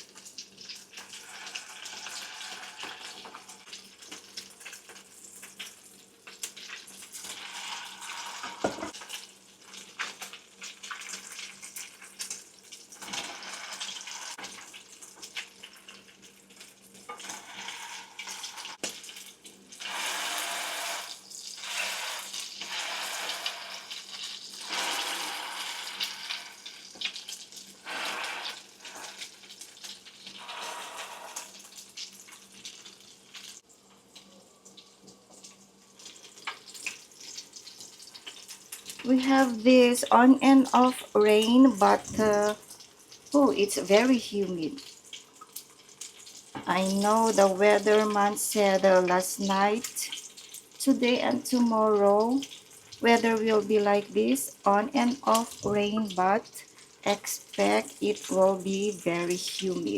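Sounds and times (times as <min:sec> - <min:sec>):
water running from tap: 0:00.0 - 0:09.2, 0:09.8 - 0:33.6, 0:35.4 - 0:59.9.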